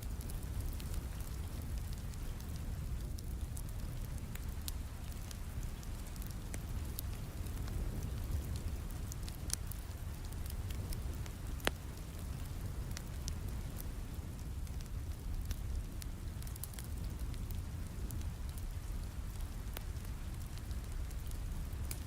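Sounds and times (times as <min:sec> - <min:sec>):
steady rain: 0:00.0 - 0:22.0
wood fire crackling and popping: 0:00.0 - 0:22.0.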